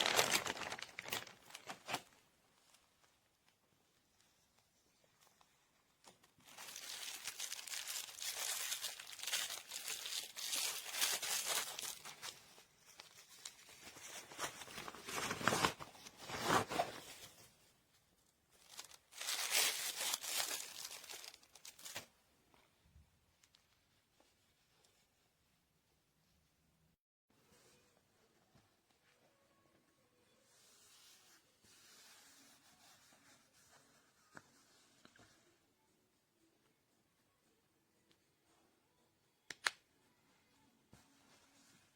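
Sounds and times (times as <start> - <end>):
crinkly material rustling: 0.0 - 25.7, 27.5 - 35.5.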